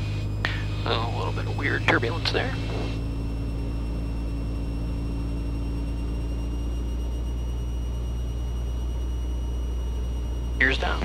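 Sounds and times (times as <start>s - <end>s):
airplane engine drone in cabin: 0.0s - 11.0s.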